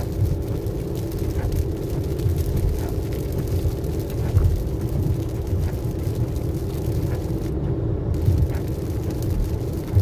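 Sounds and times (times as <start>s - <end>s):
car tyres and engine rumbling: 0.0s - 10.0s
constant hum: 0.0s - 10.0s.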